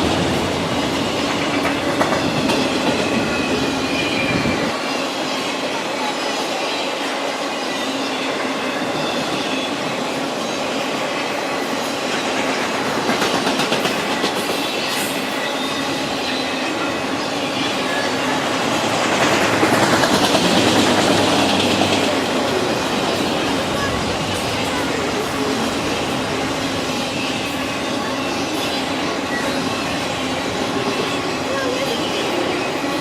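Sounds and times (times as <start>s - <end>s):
train wheels clacking on rails: 0.0s - 33.0s.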